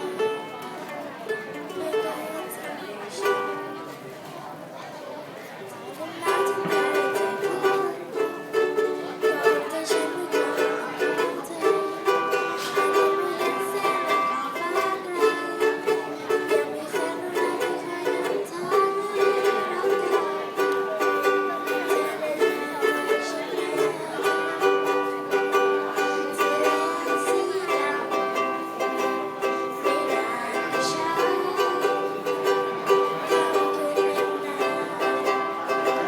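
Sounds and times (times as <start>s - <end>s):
ukulele strumming: 0.0s - 4.1s, 6.0s - 36.0s.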